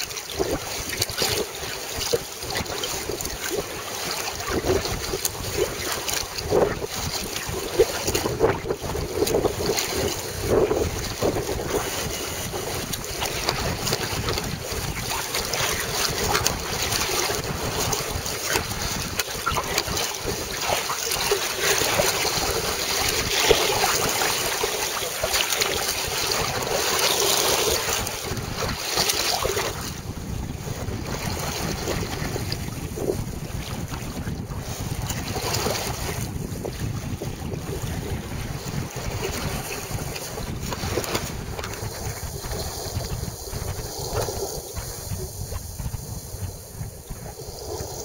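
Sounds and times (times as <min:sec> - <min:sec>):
water splashing along hull: 0:00.0 - 0:48.0
wind buffeting microphone: 0:00.0 - 0:48.0.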